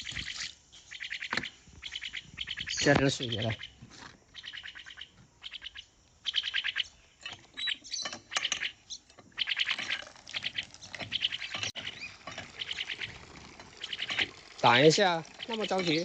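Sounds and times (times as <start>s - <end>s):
mynas chirping: 0.0s - 16.0s.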